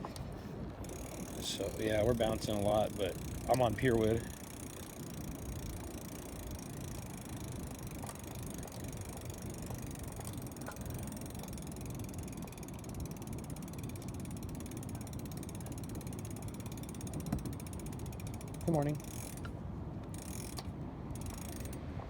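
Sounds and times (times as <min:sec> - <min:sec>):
bike rattling over wooden planks: 0:00.8 - 0:19.5
freewheel ratchet clicking: 0:00.8 - 0:21.8.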